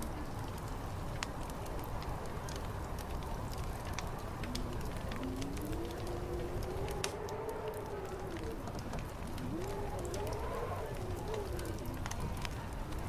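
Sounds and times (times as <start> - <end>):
faint wind moaning: 0.0 - 13.0
wood fire crackling and popping: 0.0 - 13.0.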